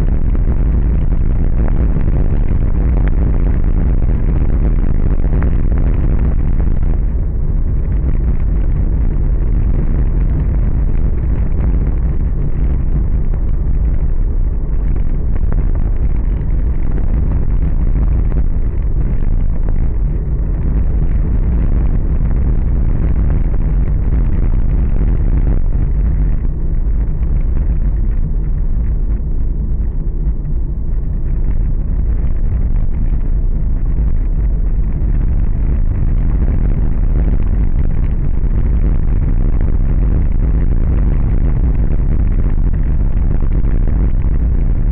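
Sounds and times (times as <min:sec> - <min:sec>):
car cabin road and engine rumble: 0:00.0 - 0:44.9.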